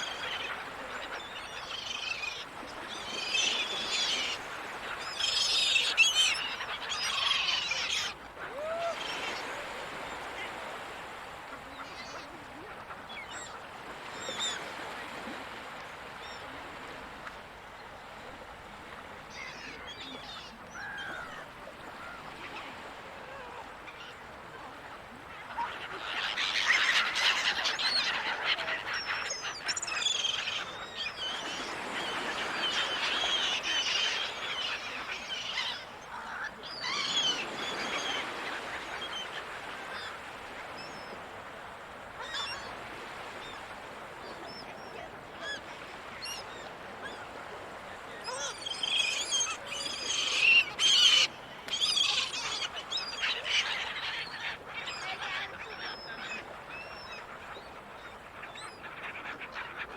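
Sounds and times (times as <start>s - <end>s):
seagulls calling: 0.0s - 10.9s, 19.3s - 24.2s, 25.3s - 41.4s, 42.2s - 59.9s.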